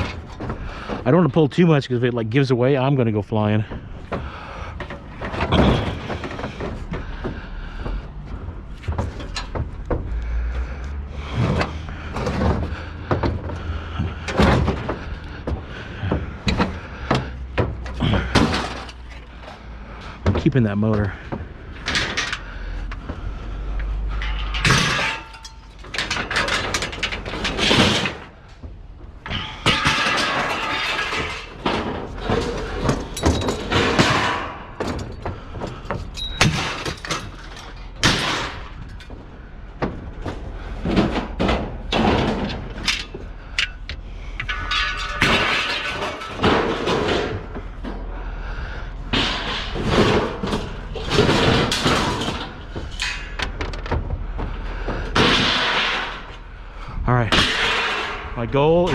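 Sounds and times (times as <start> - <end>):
scrap metal clanking and crashing: 0.0 - 58.9.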